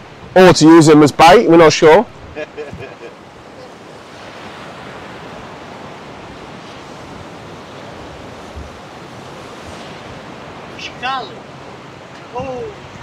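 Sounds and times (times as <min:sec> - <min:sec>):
waves breaking against rocks: 0:01.7 - 0:13.0
wind on microphone: 0:02.0 - 0:13.0.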